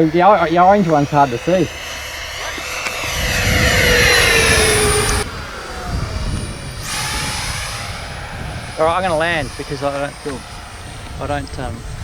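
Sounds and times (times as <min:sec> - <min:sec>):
rc jet fan whine flying past: 0:00.0 - 0:12.0.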